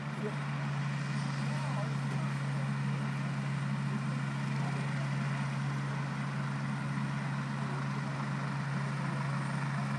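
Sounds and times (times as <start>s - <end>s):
helicopter engine hum: 0.0s - 9.9s.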